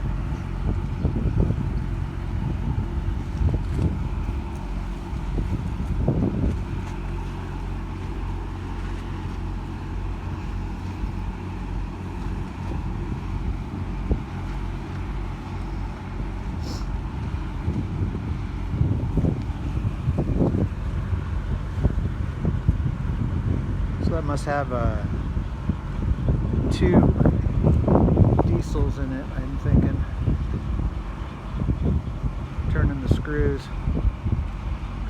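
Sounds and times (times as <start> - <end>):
tugboat diesel engine running: 0.0 - 35.0
wind buffeting microphone: 0.0 - 35.0.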